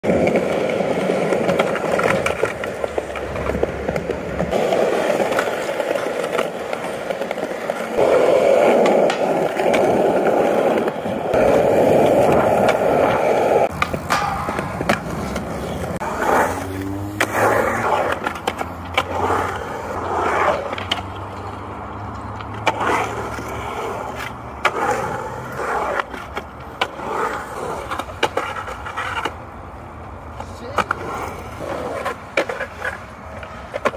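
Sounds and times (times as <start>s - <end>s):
skateboard clacks and scuffs: 0.0s - 33.9s
skateboard sliding on metal rail: 0.0s - 33.9s
skateboard wheels rolling on concrete: 0.0s - 33.9s.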